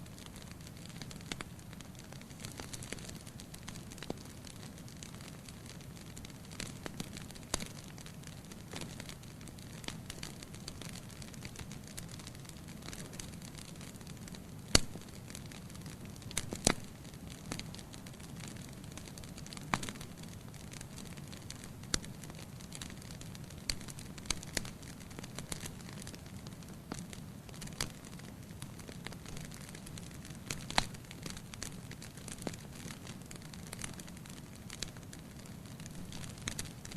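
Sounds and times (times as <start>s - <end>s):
burning logs crackling and popping: 0.0s - 36.9s
low rumble of flame: 0.0s - 36.9s.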